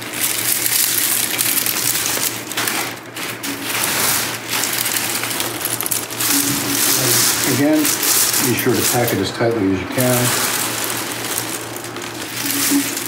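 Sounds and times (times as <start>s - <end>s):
dry leaves crackling and snapping: 0.0s - 13.0s
plastic bag rustling: 0.0s - 13.0s.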